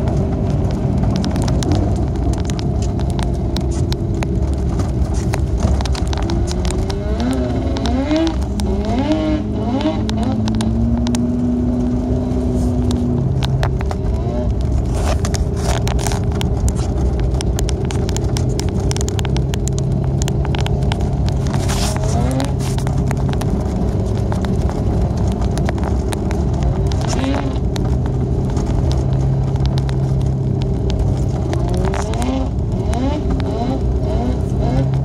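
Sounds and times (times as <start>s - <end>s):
car engine and tyre noise: 0.0s - 35.0s
sharp clicks and crackles: 0.0s - 35.0s.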